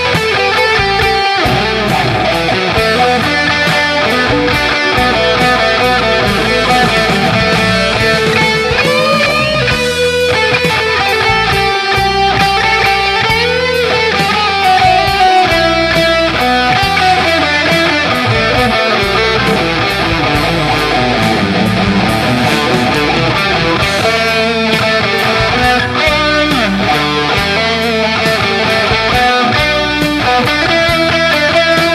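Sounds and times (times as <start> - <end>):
electric guitar with bending notes: 0.0 - 31.9
steady drum beat: 0.0 - 31.9.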